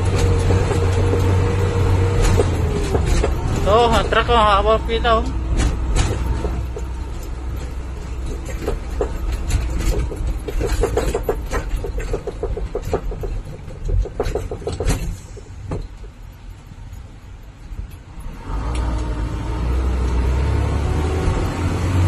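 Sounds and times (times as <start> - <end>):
rattling clicks and squeaks: 0.0 - 19.1
engine and road rumble: 0.0 - 22.0.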